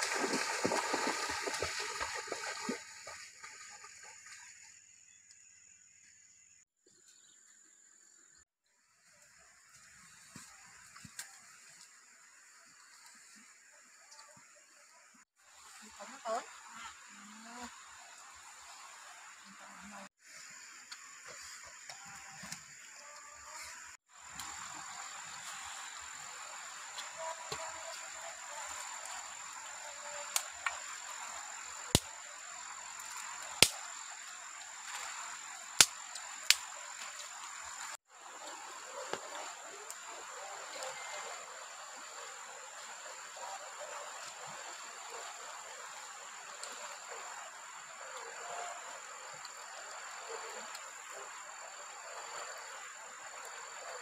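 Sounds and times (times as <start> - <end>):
outdoor ambience: 0.0 - 54.0.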